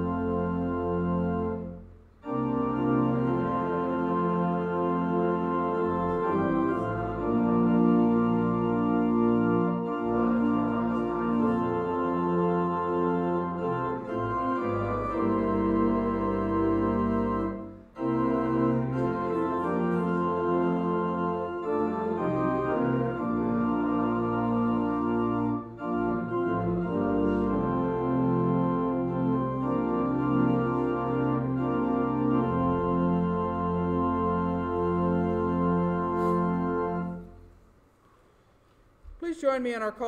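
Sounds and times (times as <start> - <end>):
church organ playing a hymn: 0.0 - 37.5.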